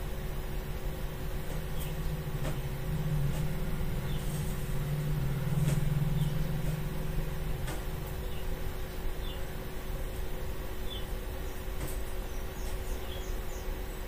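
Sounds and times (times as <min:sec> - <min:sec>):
motor vehicle engine running: 0:00.0 - 0:13.6.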